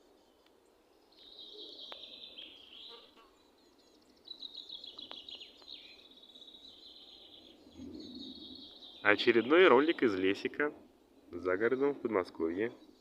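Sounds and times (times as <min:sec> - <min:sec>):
songbirds trilling: 0:00.0 - 0:13.0.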